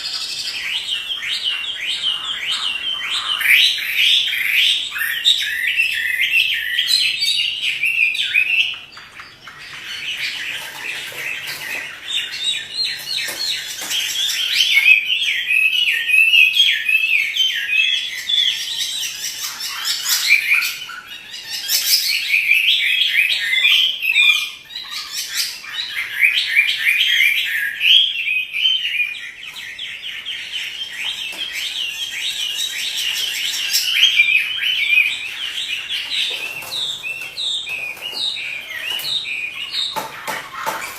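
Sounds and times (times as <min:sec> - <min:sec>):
bird whistling song: 0:00.0 - 0:40.9.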